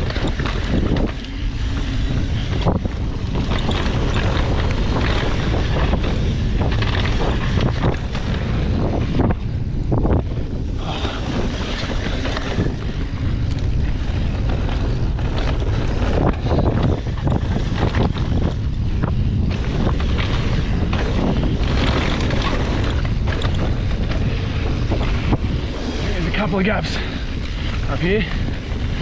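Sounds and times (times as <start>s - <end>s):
bike rattling over bumps: 0.0s - 29.0s
tyres rumbling on dirt: 0.0s - 29.0s
wind buffeting microphone: 0.0s - 29.0s.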